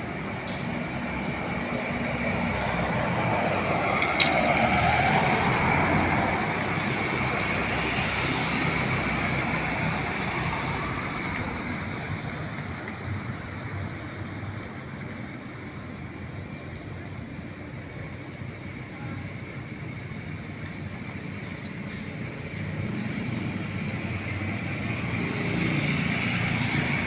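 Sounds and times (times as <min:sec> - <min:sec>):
passing vehicle rumble and tyre hiss: 0:00.0 - 0:27.0.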